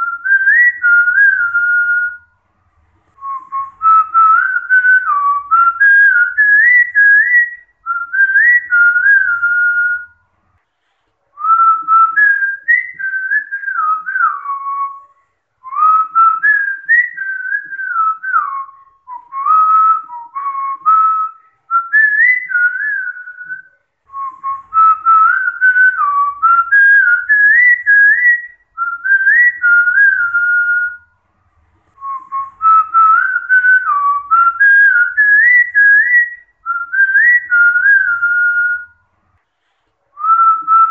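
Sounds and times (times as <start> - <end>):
person whistling a melody: 0.0 - 2.3, 3.2 - 10.2, 11.4 - 31.1, 31.9 - 39.0, 40.2 - 40.9.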